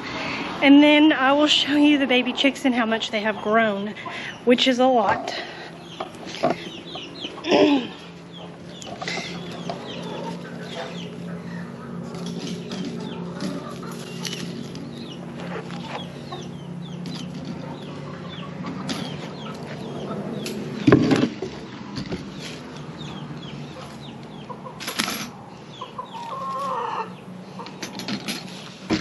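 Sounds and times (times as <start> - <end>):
low steady hum: 0.0 - 29.0
chickens clucking and chirping: 1.2 - 29.0.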